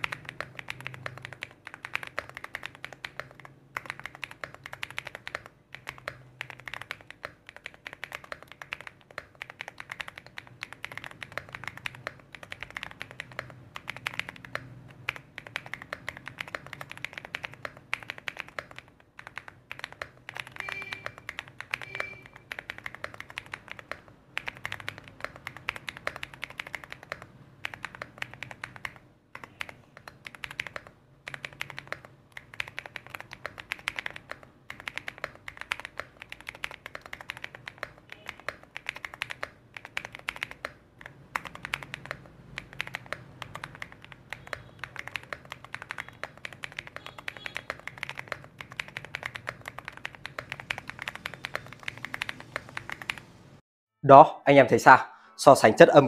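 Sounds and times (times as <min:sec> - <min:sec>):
mechanical keyboard typing: 0:00.0 - 0:53.4.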